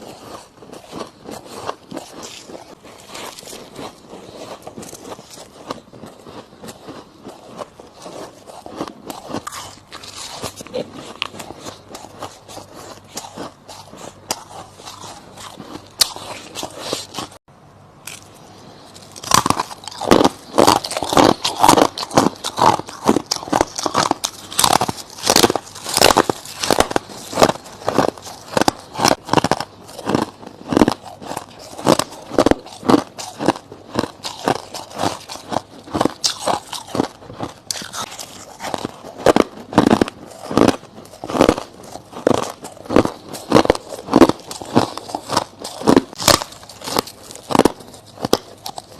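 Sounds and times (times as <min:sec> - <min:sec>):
ice crunching while chewed: 0:00.0 - 0:17.4, 0:18.1 - 0:48.9.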